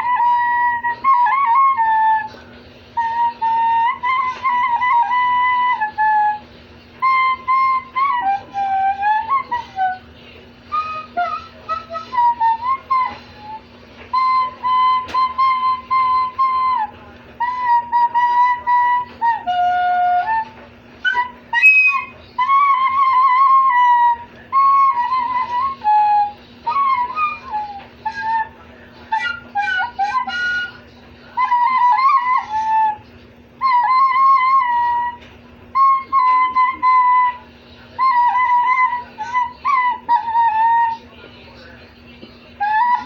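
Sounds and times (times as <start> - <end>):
recorder playing held notes: 0.0 - 2.4, 3.0 - 41.1, 42.6 - 43.0.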